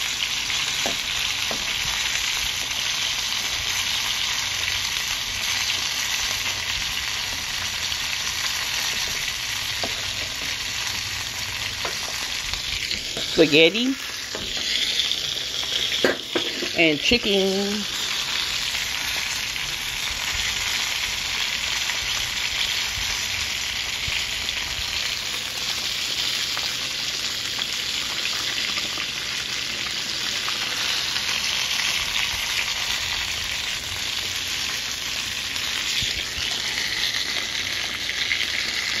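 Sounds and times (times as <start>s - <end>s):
chicken frying in hot oil: 0.0s - 39.0s.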